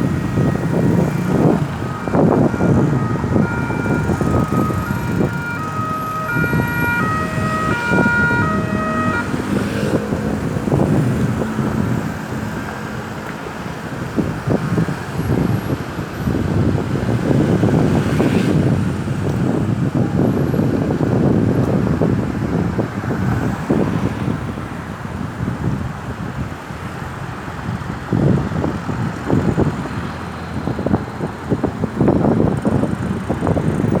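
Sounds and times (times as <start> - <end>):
road traffic noise: 0.0 - 34.0
wind buffeting microphone: 0.0 - 34.0.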